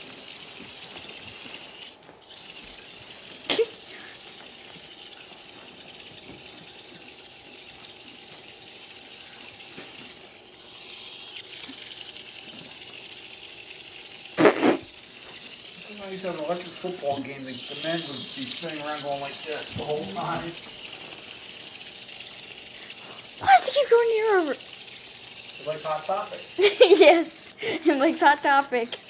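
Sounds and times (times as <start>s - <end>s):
toy robots buzzing on floor: 0.0s - 29.0s.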